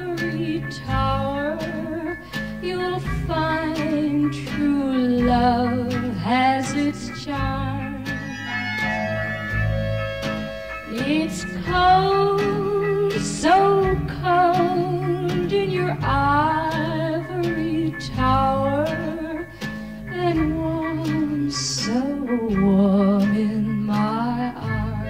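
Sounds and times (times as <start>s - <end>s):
woman singing: 0.0s - 8.3s, 10.9s - 25.0s
orchestra with guitar: 0.0s - 25.0s.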